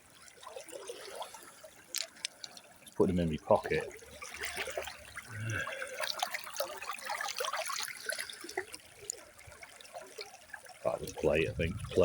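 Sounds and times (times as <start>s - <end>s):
river water trickling: 0.0s - 12.0s
small splashes in water: 0.1s - 2.9s, 3.9s - 12.0s.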